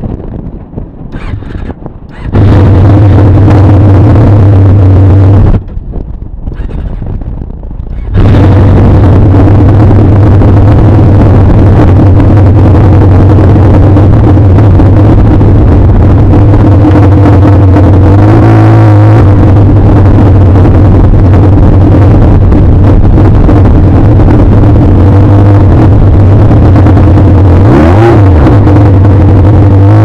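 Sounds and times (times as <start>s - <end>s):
loud motorcycle engine drone: 0.0s - 30.0s
wind noise: 0.0s - 30.0s.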